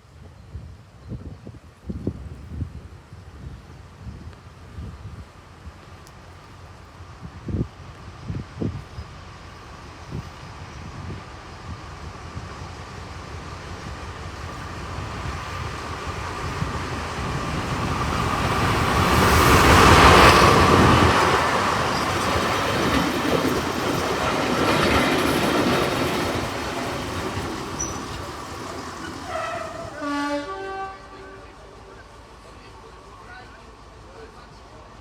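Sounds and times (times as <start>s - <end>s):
diesel train passing: 2.3s - 35.0s.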